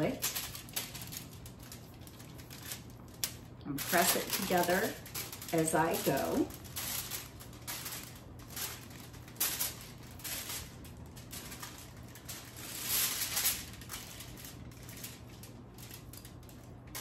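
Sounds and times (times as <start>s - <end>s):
aluminum foil crinkling: 0.0s - 17.0s.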